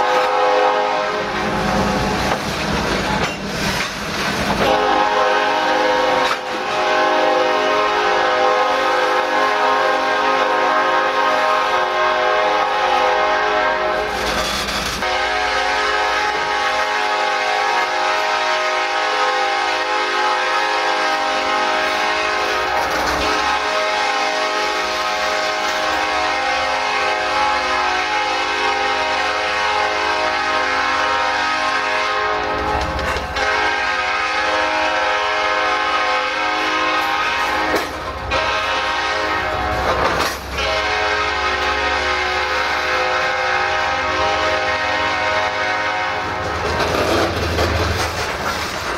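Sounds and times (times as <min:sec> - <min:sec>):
locomotive air horn blast: 0:00.0 - 0:02.4, 0:04.4 - 0:47.4.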